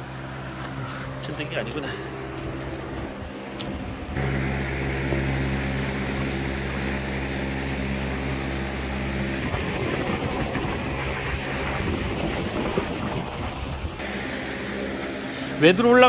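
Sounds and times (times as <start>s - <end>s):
engine hiss: 0.0s - 16.0s
low engine hum: 0.0s - 16.0s.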